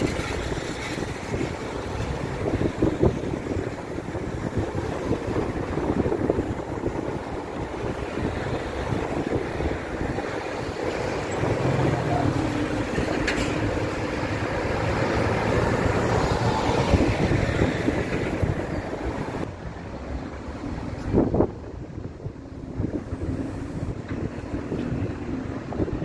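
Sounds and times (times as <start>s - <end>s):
heavy diesel traffic passing: 0.0s - 26.0s
tyre noise on road: 0.0s - 26.0s.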